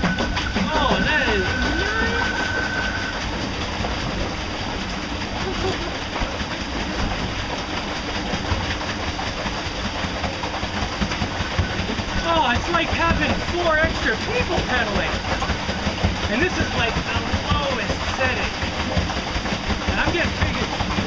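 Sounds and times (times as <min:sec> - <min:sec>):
low motor rumble: 0:00.0 - 0:21.0
water and wind rushing: 0:00.0 - 0:21.0.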